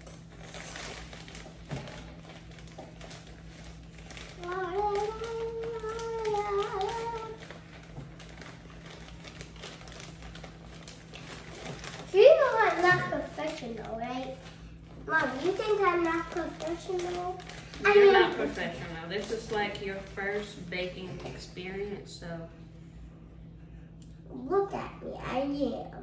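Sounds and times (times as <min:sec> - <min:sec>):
paper bag crinkling: 0:00.0 - 0:21.7.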